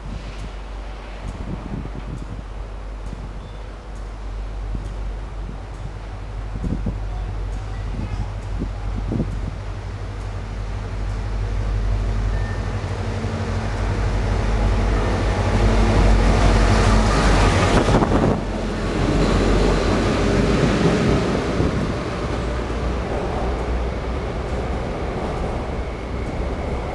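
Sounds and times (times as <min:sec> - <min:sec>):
diesel locomotive engine: 0:00.0 - 0:26.9
train coaches rumbling past: 0:00.0 - 0:26.9.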